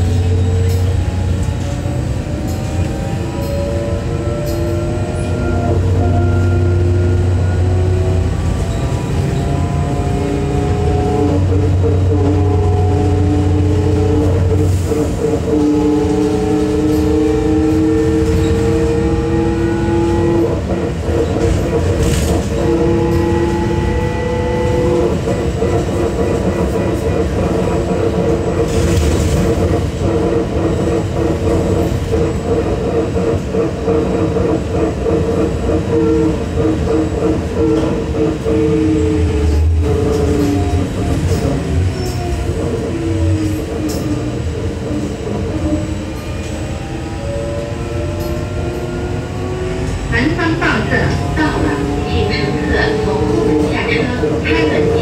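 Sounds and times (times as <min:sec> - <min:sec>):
trolleybus low drone: 0:00.0 - 0:55.0.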